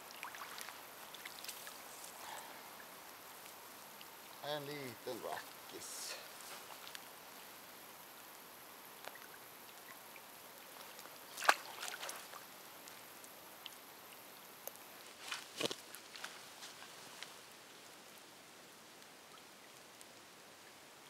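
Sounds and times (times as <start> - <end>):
faint outdoor hiss: 0.0 - 21.0.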